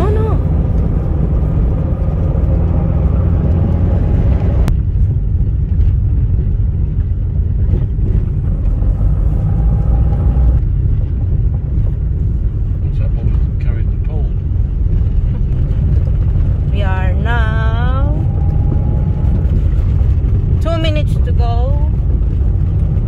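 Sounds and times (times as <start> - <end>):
car road rumble: 0.0 - 23.0.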